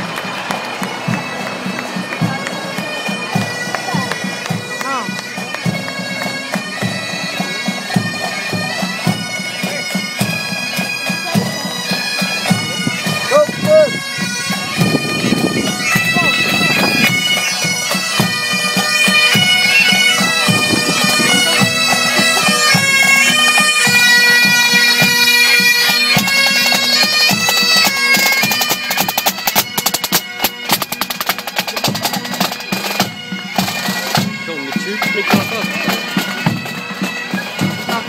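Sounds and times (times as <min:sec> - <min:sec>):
bagpipes playing melody: 0:00.0 - 0:38.0.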